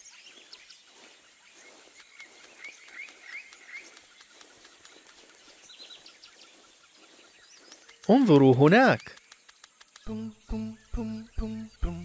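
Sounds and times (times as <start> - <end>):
small animals chirping: 0.9 - 12.0.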